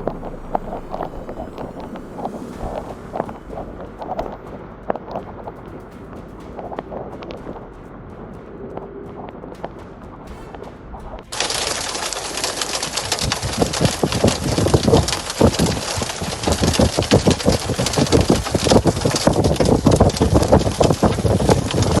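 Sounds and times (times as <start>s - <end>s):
heavy rain pelting down: 0.0s - 10.5s, 11.2s - 22.0s.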